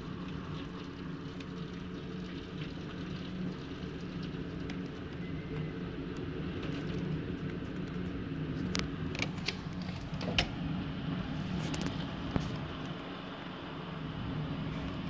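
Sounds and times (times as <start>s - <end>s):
driving rain: 0.0s - 15.0s
tornado winds roaring: 2.0s - 15.0s.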